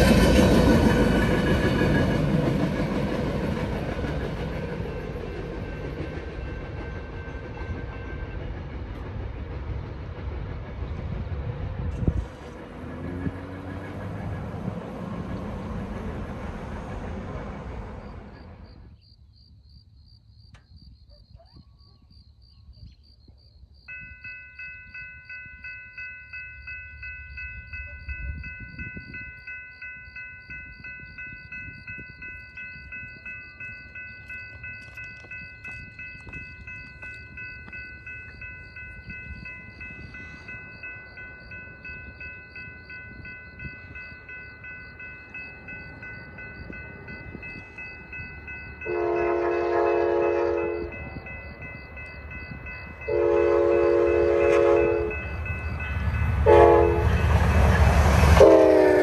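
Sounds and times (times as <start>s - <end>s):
crossing warning bell clanging: 0.0s - 10.2s, 11.1s - 18.9s, 23.9s - 59.0s
freight train rumbling: 0.0s - 19.0s, 23.9s - 59.0s.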